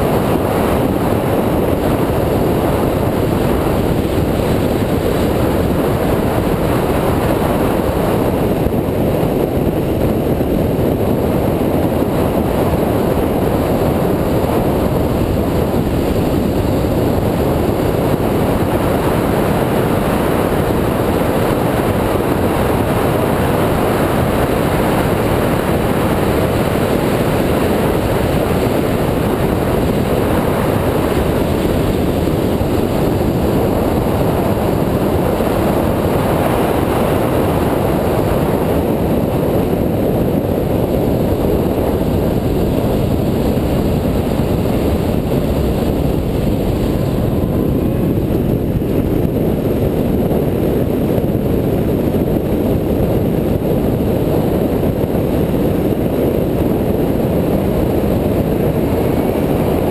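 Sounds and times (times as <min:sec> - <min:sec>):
car driving at speed: 0:00.0 - 0:59.9
wind buffeting microphone: 0:00.0 - 0:59.9.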